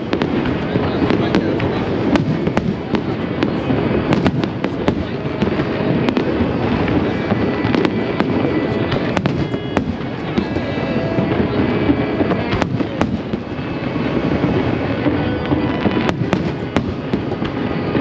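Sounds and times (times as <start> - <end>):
fireworks rumbling bursts: 0.0 - 18.0
sharp firework cracks: 0.0 - 18.0.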